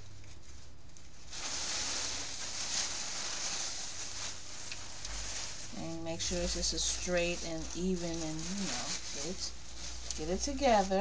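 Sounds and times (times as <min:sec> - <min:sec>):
plastic tablecloth rustling: 0:00.0 - 0:11.0.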